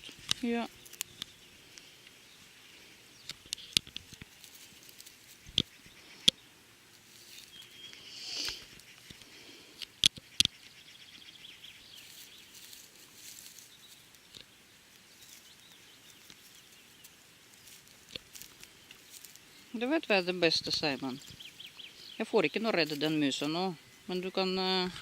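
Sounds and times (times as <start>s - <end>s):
rustling in leaf litter: 0.0s - 3.0s, 4.0s - 5.8s, 6.7s - 9.1s, 11.8s - 25.0s.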